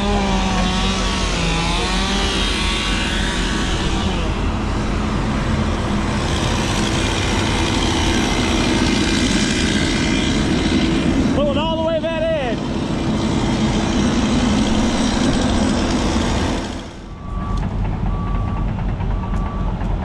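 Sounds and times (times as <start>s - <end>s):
large diesel engine running: 0.0s - 20.0s.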